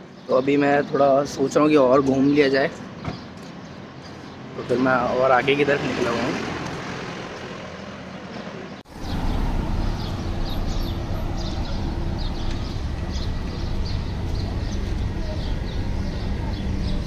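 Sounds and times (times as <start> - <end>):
low street rumble: 1.2 - 17.0.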